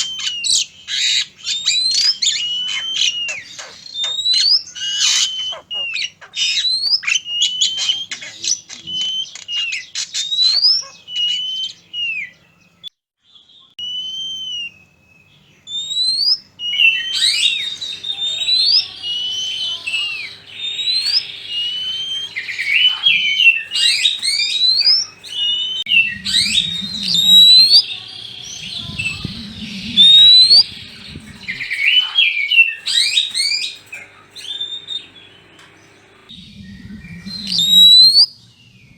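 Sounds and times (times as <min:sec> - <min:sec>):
bird song whistles and chirps: 0:00.0 - 0:38.9.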